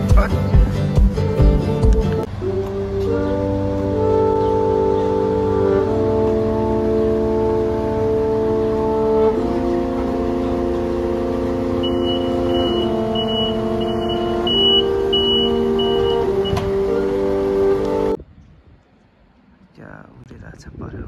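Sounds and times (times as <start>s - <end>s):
slow sustained music chords: 0.0s - 18.2s.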